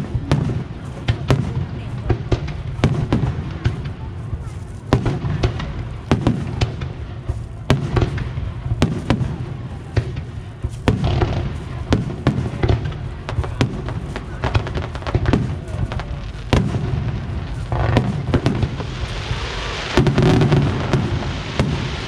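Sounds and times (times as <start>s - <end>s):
fireworks bangs and cracks: 0.0s - 22.0s
steady low rumble: 3.4s - 22.0s.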